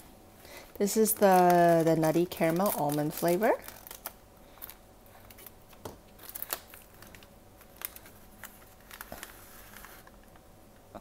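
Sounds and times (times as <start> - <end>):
plastic wrapper crinkling: 0.8 - 10.4.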